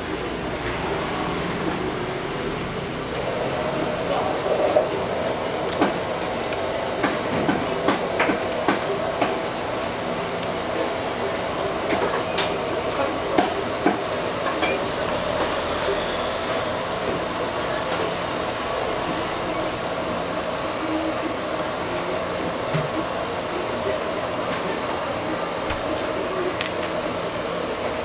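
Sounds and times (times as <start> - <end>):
restaurant background din: 0.0 - 28.0.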